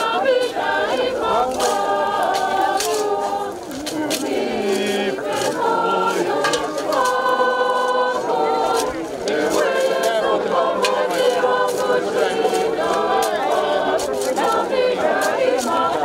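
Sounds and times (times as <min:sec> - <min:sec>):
group singing unaccompanied: 0:00.0 - 0:16.0.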